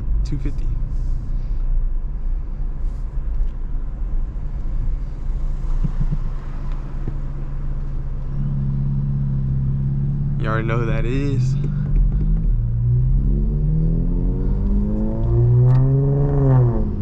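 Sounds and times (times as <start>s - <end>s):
car engine low rumble: 0.0s - 17.0s
road noise: 0.0s - 17.0s.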